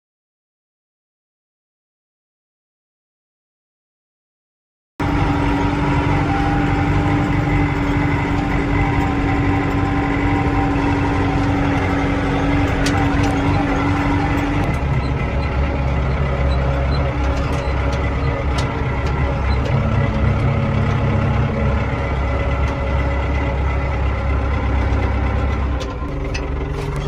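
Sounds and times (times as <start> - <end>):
tractor diesel engine running: 5.0 - 27.0.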